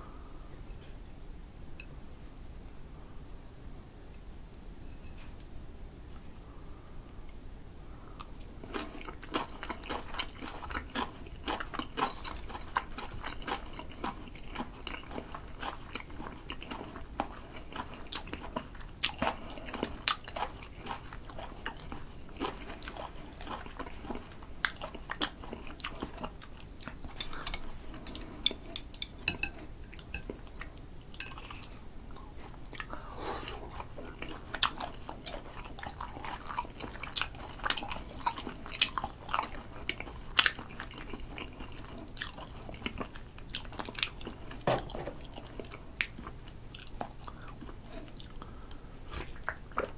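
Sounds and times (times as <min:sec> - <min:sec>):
chewing with wet mouth clicks: 0:08.2 - 0:33.0, 0:33.7 - 0:49.9.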